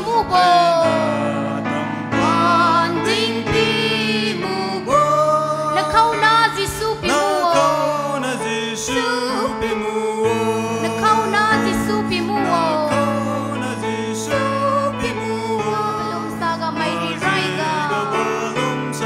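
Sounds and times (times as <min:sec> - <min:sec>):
sustained instrumental accompaniment: 0:00.0 - 0:19.0
women's choir singing: 0:00.0 - 0:19.0.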